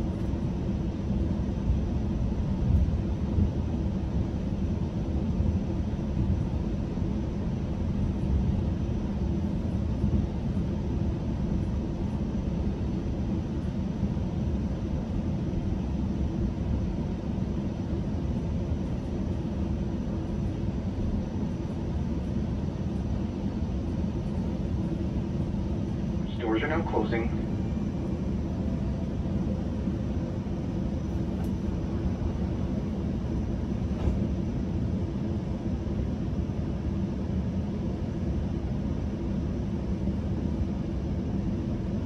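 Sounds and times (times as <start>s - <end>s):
train interior rumble and hum: 0.0s - 42.0s.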